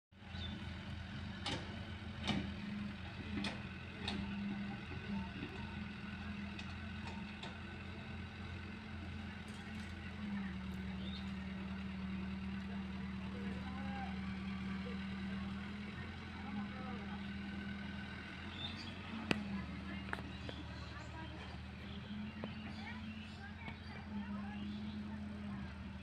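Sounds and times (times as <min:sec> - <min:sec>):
diesel excavator engine running: 0:00.2 - 0:26.0.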